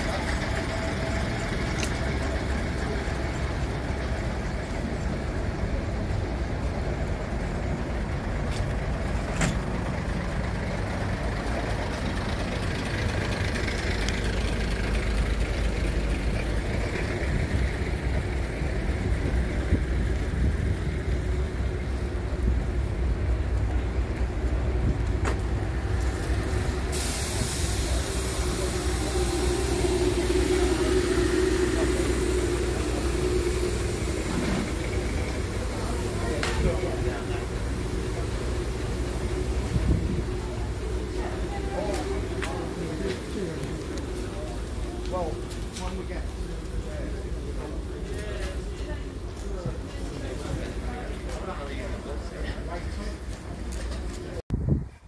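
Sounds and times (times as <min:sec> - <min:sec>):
diesel engines idling: 0:00.0 - 0:54.4.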